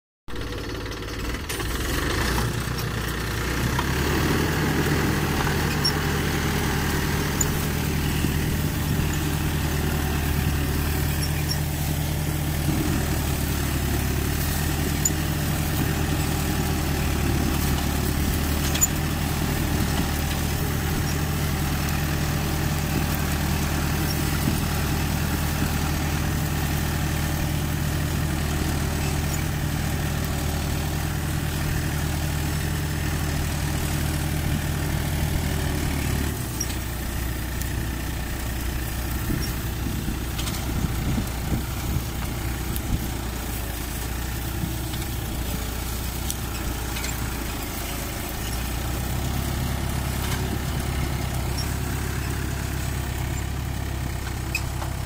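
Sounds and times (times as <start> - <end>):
tractor engine running under load: 0.3 - 55.0.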